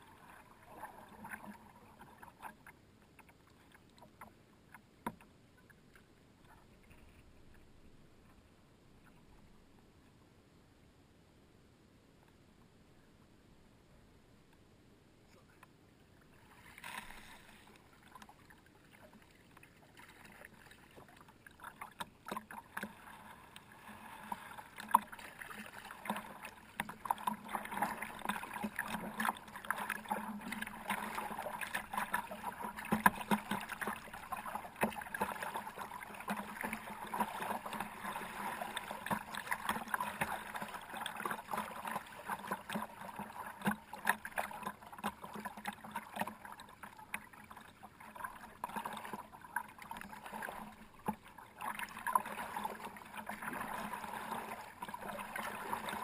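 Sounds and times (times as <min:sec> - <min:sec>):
paddle splashing water: 0:00.0 - 0:09.6, 0:15.2 - 0:56.0.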